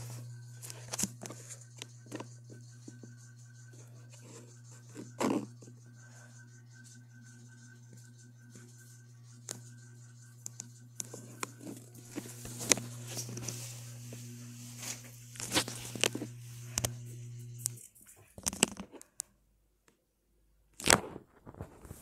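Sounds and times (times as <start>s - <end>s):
ceiling fan motor humming: 0.0s - 17.9s.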